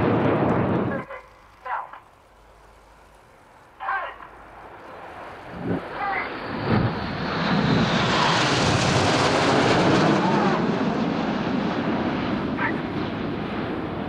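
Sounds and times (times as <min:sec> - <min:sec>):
jet aircraft passing overhead: 0:00.0 - 0:14.0.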